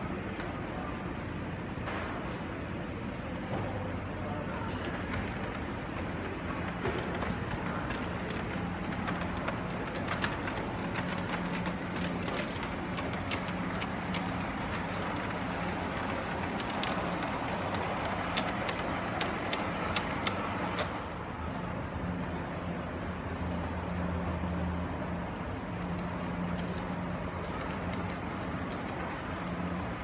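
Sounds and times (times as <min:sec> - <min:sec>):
wheels clicking on rails: 0:04.9 - 0:30.0.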